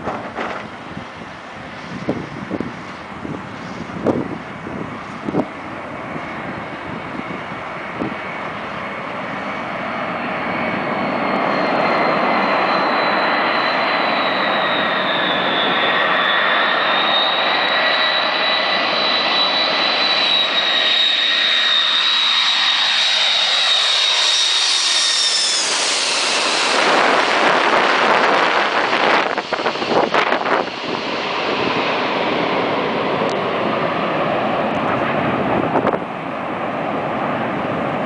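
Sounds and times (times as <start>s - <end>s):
jet engines whining overhead: 0.0s - 38.0s.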